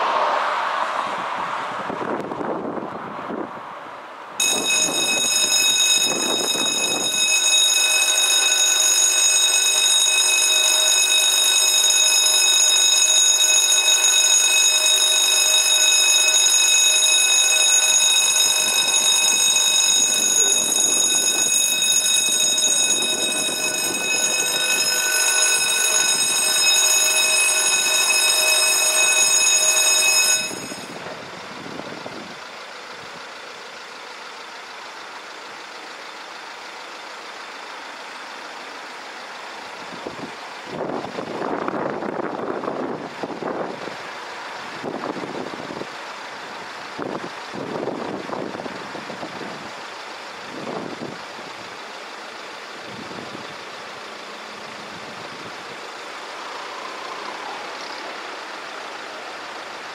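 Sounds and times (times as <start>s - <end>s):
road traffic passing: 0.0s - 59.9s
level crossing warning bell: 4.4s - 59.9s.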